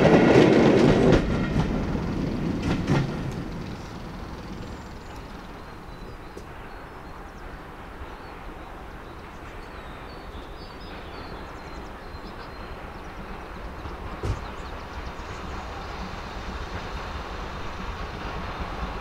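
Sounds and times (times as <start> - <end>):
distant steam locomotive rumble: 0.0 - 19.0
birds chirping: 3.1 - 19.0.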